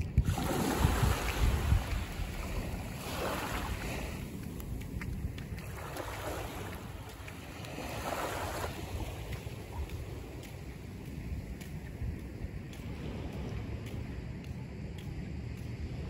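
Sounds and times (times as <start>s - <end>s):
waves lapping on sandy shore: 0.0s - 16.0s
wind buffeting microphone: 0.0s - 16.0s.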